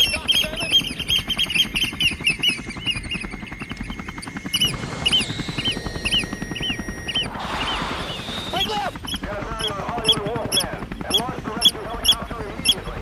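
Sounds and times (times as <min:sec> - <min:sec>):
drone rotor chopping: 0:00.0 - 0:12.3
oystercatchers piping alarm calls: 0:00.0 - 0:12.8.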